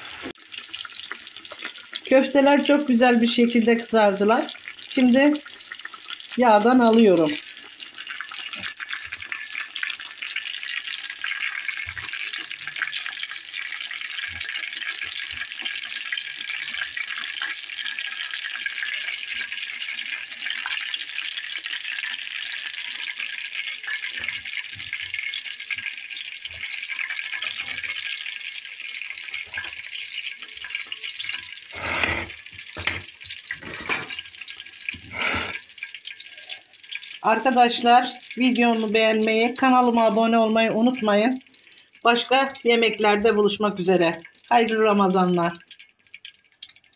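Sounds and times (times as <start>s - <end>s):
oil sizzling and crackling: 0.0s - 46.9s.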